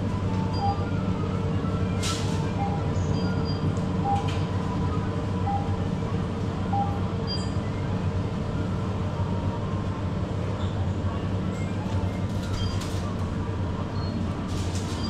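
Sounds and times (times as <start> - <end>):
refrigerator hum: 0.0 - 15.0.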